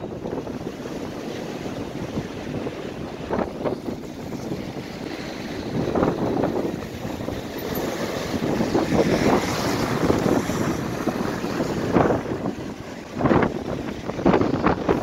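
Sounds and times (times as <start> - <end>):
wind on microphone: 0.0 - 15.0
vehicles passing on wet road: 0.1 - 15.0.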